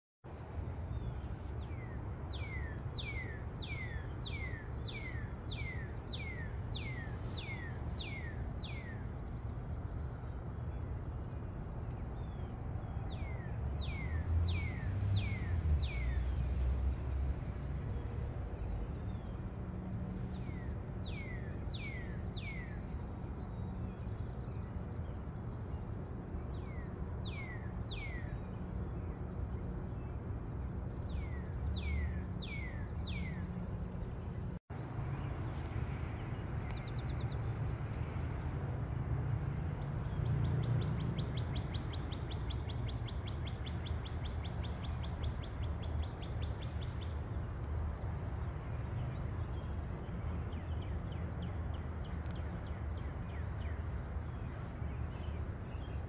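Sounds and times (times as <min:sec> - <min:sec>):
low outdoor rumble: 0:00.3 - 0:56.0
songbird singing: 0:00.3 - 0:56.0.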